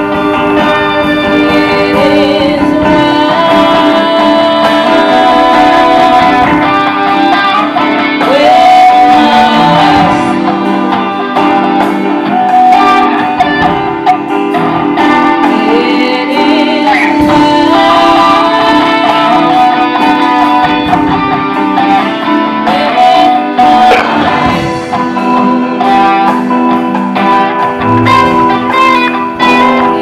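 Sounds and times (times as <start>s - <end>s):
guitar music with sliding notes: 0.0s - 30.0s.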